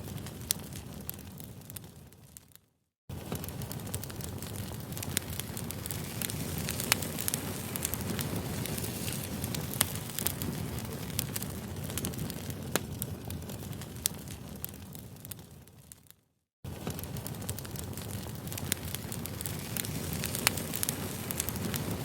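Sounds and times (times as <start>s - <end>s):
campfire crackling: 0.0s - 2.5s, 3.1s - 16.1s, 16.7s - 22.0s.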